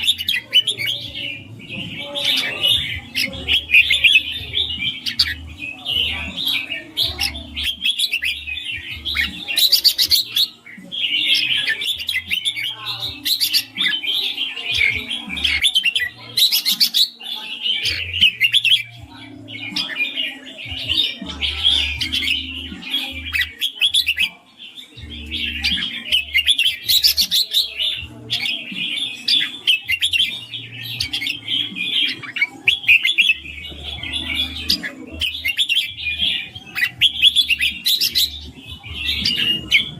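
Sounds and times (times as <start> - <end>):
bird singing bright chirps: 0.0 - 39.9.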